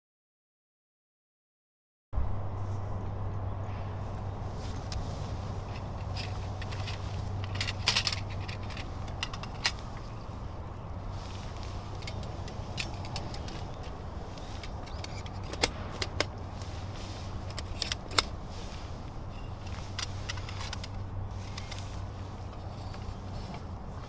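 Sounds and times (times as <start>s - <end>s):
steady low hum: 2.2s - 24.0s.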